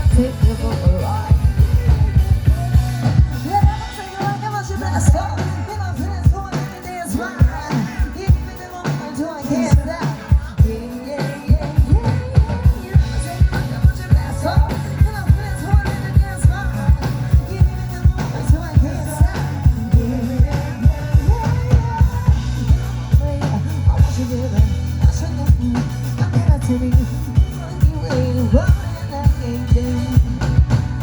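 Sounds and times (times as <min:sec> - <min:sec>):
person singing: 0:00.0 - 0:31.0
rock band playing: 0:00.0 - 0:31.0.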